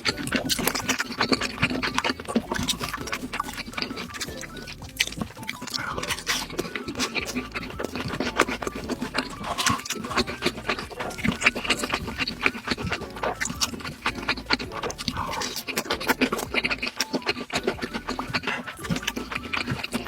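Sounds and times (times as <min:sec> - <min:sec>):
person chewing and smacking: 0:00.0 - 0:20.0.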